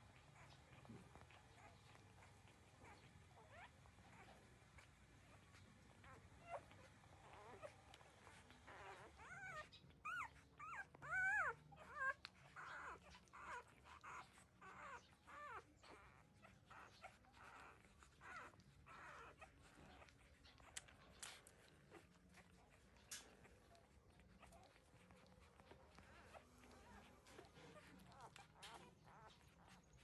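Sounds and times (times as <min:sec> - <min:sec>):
puppies snuffling: 0:00.0 - 0:30.0
puppies whimpering: 0:00.0 - 0:30.0.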